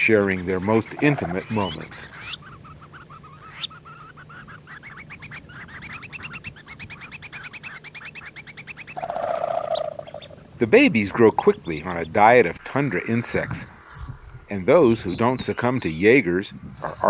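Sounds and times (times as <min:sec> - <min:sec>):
birds chattering: 0:00.0 - 0:17.0
low steady hum: 0:00.0 - 0:17.0.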